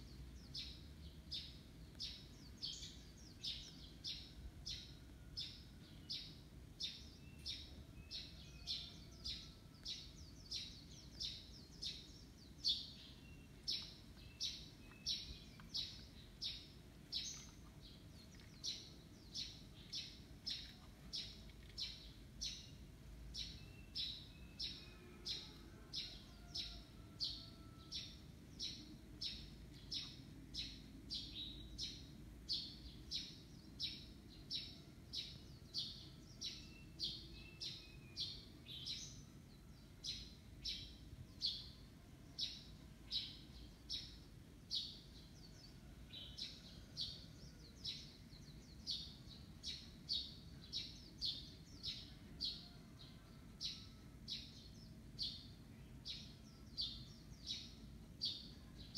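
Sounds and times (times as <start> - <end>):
bird chirping: 0.0 - 52.9, 53.6 - 58.9.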